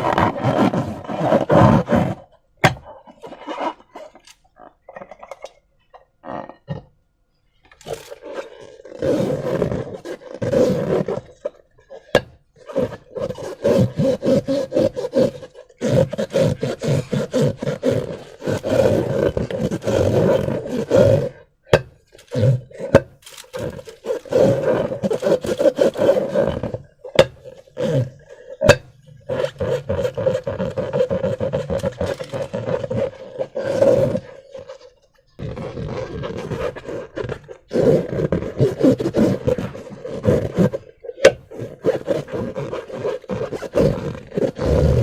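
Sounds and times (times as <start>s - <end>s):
balloon squeaking: 0.0s - 6.8s, 7.7s - 45.0s.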